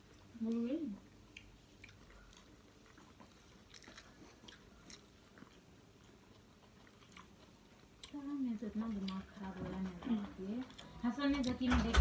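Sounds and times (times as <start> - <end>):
faint chewing: 0.0 - 11.7.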